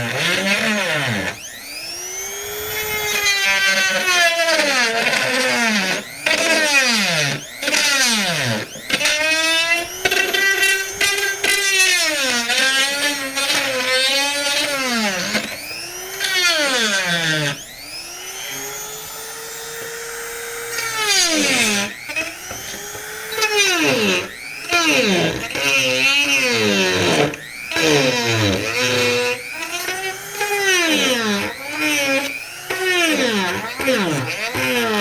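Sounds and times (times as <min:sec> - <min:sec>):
rotary tool grinding plastic pipe: 0:00.0 - 0:35.0.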